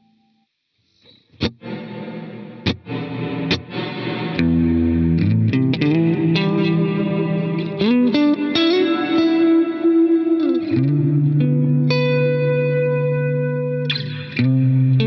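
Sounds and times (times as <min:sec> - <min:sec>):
electric guitar with reverb: 0:00.0 - 0:15.0.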